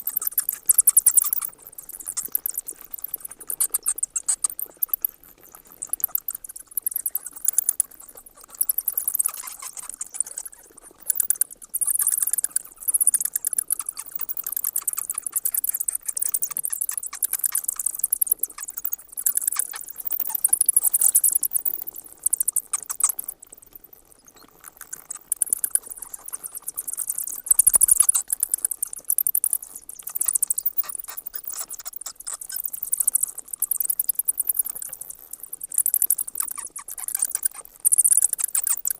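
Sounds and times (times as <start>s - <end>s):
bats chattering: 0.0s - 5.1s, 5.8s - 35.0s, 35.6s - 38.9s.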